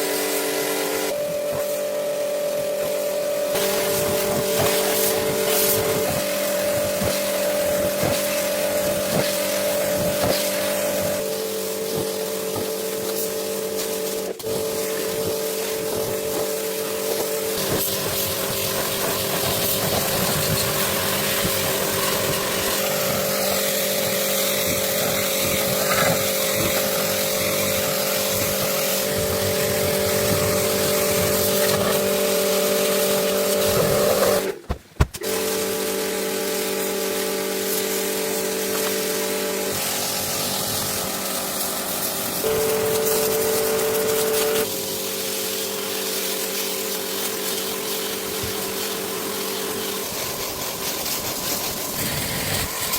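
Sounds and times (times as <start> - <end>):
motor humming: 0.0 - 52.9.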